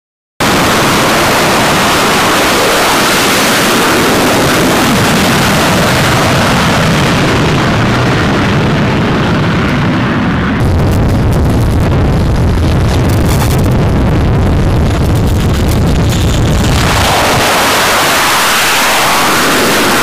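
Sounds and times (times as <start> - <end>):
jet engines roaring: 0.4 - 20.0.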